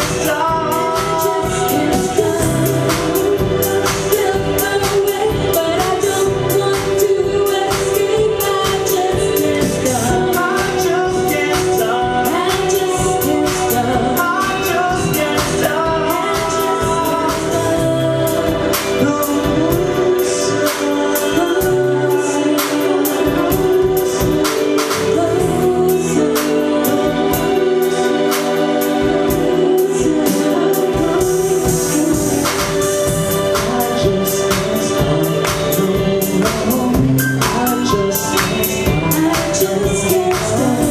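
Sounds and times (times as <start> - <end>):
live band playing: 0.0 - 40.9
person singing: 0.0 - 40.9
steady drum beat: 0.0 - 40.9.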